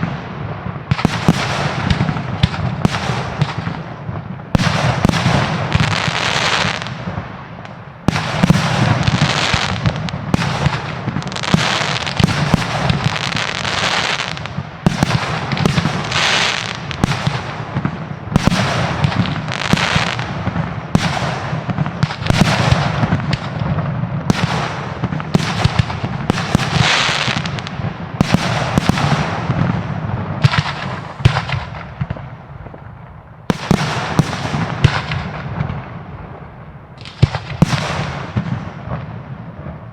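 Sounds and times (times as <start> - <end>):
crackling firework tail: 0.0 - 39.9.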